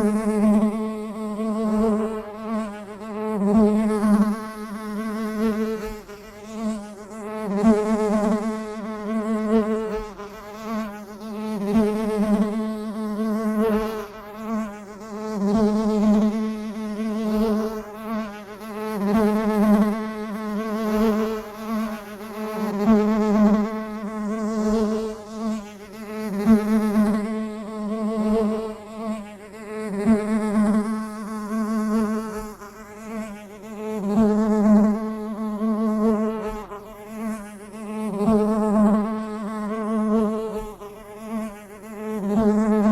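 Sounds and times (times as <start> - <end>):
bee buzzing in flight: 0.0 - 42.9.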